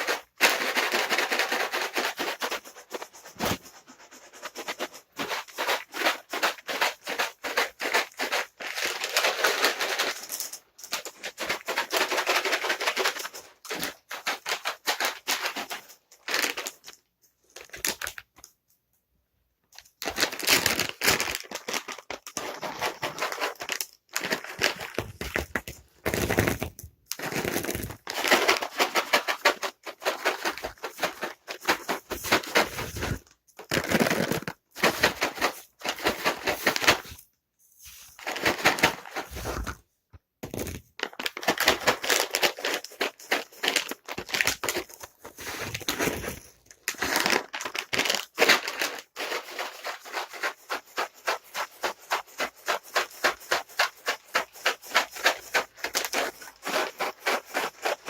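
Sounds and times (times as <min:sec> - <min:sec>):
cat treats rattling in container: 0:00.0 - 0:18.5, 0:19.8 - 0:37.2, 0:38.1 - 0:39.8, 0:40.5 - 0:58.0.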